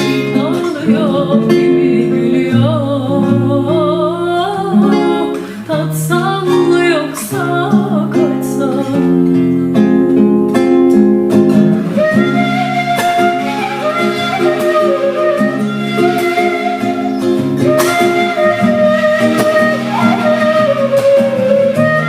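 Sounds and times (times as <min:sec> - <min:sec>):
wavering melody with vibrato: 0:00.0 - 0:09.5, 0:11.5 - 0:22.0
acoustic guitar: 0:00.0 - 0:22.0.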